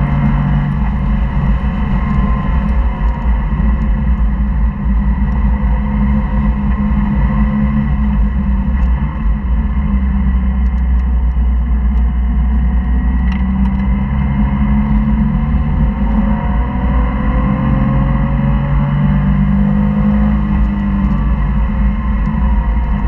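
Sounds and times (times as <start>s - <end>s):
car engine accelerating: 0.0s - 23.0s
road noise: 0.0s - 23.0s.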